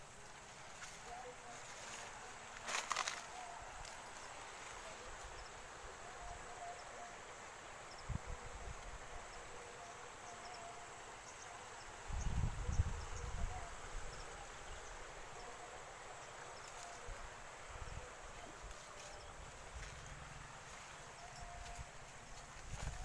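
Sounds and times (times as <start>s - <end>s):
faint insect chirps: 0.0s - 23.0s.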